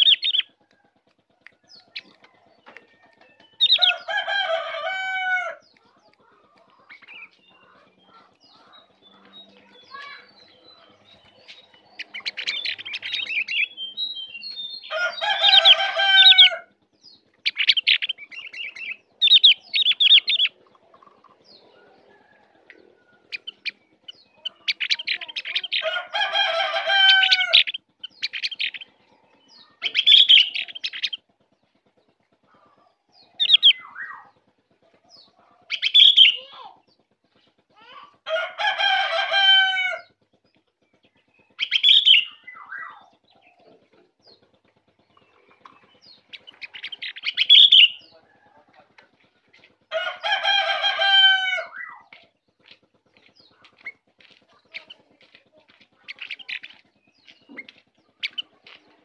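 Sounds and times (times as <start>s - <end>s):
songbird chattering trills: 0.0s - 0.7s, 1.4s - 4.1s, 5.6s - 26.0s, 26.9s - 38.1s, 40.0s - 49.8s, 51.7s - 59.0s.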